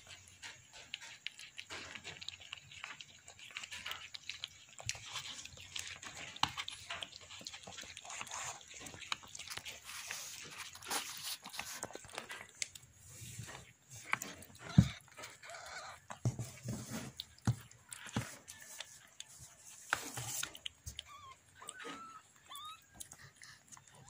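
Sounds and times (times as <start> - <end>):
cat licking kittens: 0.0 - 24.0.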